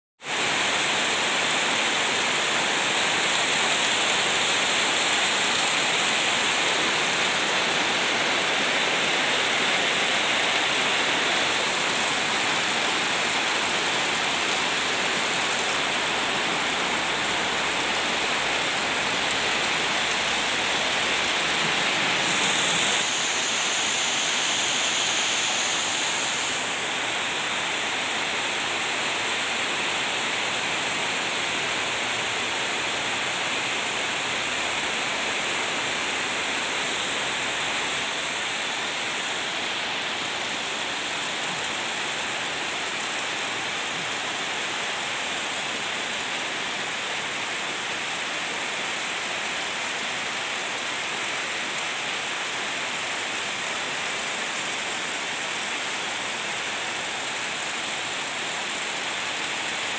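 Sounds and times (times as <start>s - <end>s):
heavy rain in wind: 0.2s - 59.9s.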